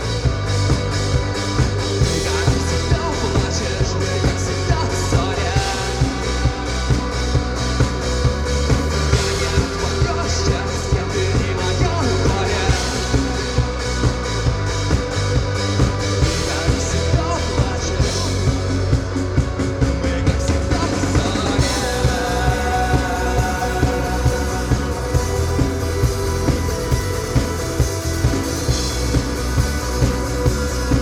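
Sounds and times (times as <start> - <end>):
drum kit beat: 0.0 - 31.0
rock band playing live: 0.0 - 31.0.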